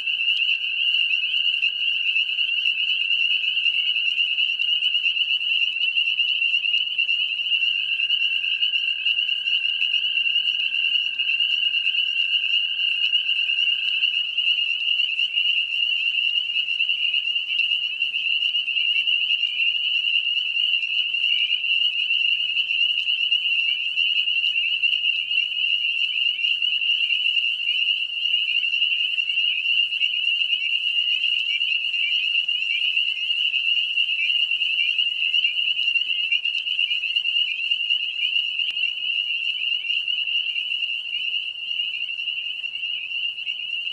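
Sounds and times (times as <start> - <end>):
frogs peeping in chorus: 0.0 - 43.9.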